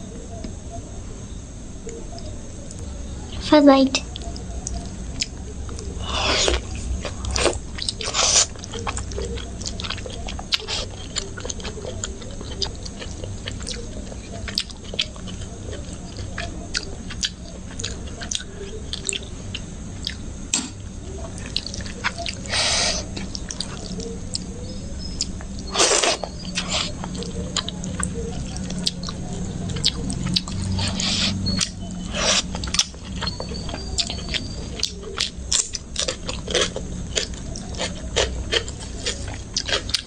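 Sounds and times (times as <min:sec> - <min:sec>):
close-miked chewing: 0:01.8 - 0:20.3, 0:20.9 - 0:40.0.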